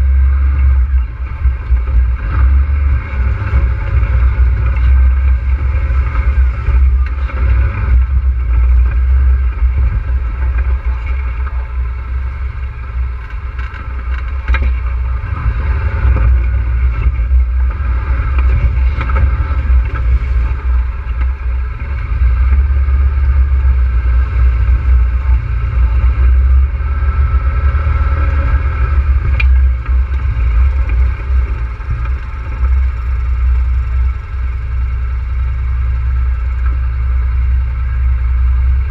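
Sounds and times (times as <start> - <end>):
atv engine rumbling: 0.0 - 38.9.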